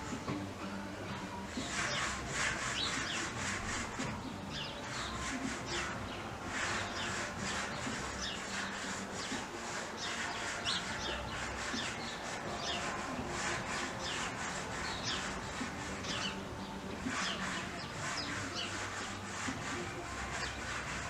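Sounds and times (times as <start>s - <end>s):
background hiss: 0.0s - 21.0s
birds chirping: 0.0s - 21.0s.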